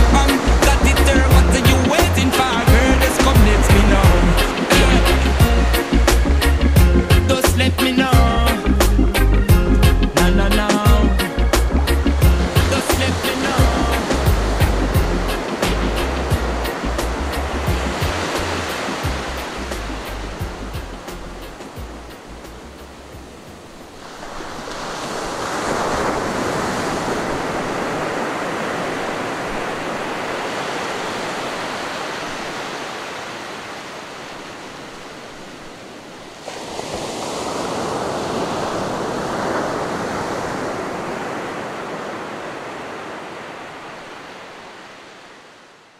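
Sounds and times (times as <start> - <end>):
waves breaking on beach: 0.0 - 6.6, 10.7 - 45.9.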